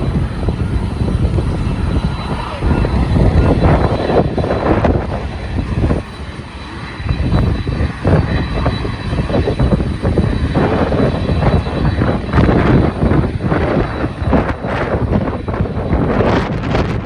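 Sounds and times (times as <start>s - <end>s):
jet airliner engine noise: 0.0s - 17.0s
wind buffeting microphone: 0.0s - 17.0s.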